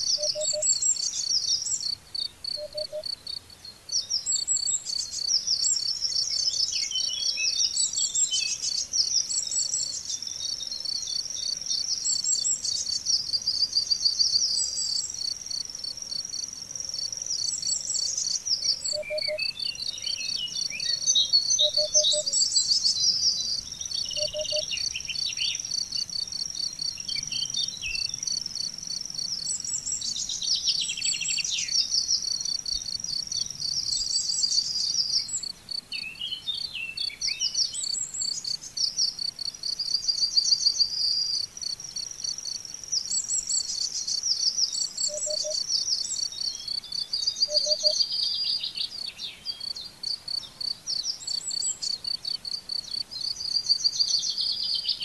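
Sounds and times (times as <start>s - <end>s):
crickets trilling: 0.0s - 55.0s
songbirds twittering: 0.0s - 55.0s.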